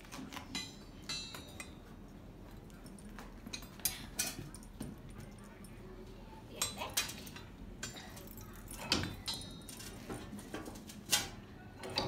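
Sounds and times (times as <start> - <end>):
tongs clinking and scraping on metal: 0.3 - 5.8, 6.5 - 12.0.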